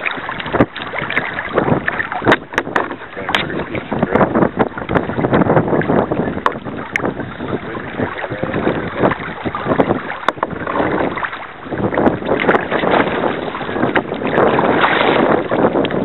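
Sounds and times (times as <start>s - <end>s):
water splashing around paddle: 0.0s - 16.0s
wind buffeting microphone: 0.0s - 16.0s.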